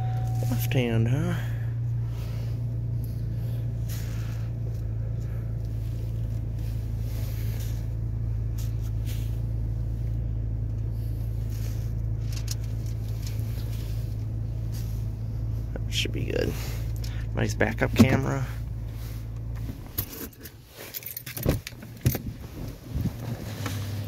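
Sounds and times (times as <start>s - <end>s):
car engine low hum: 0.0s - 24.0s.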